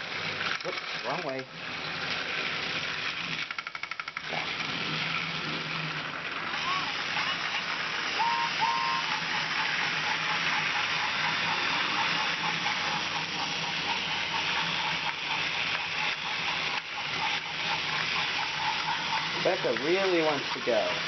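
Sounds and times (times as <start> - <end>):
toy train motors whirring: 0.0 - 21.0.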